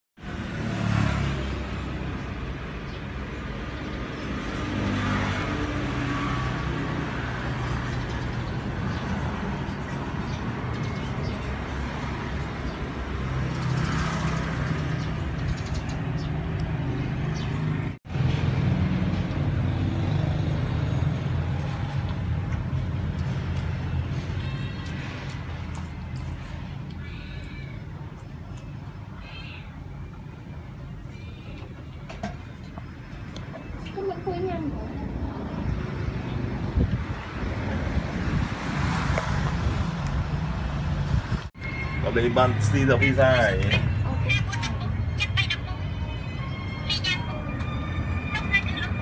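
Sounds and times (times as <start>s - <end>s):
road traffic rumble: 0.2s - 49.0s.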